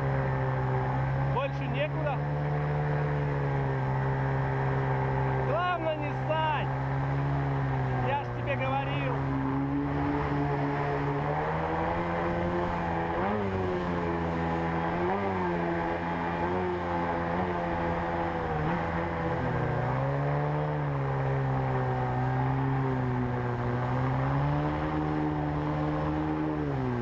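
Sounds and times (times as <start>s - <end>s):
jet boat motor running: 0.0s - 27.0s.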